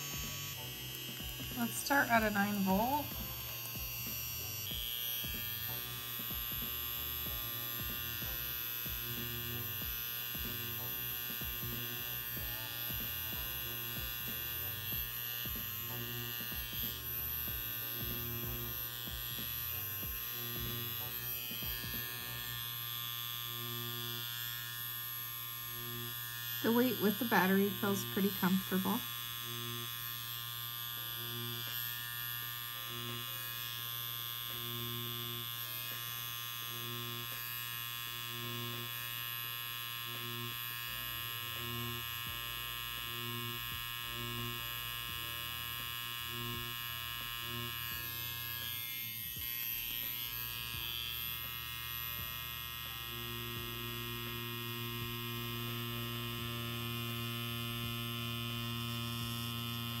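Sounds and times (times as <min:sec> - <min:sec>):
tattoo pen buzzing: 0:00.0 - 1:00.0.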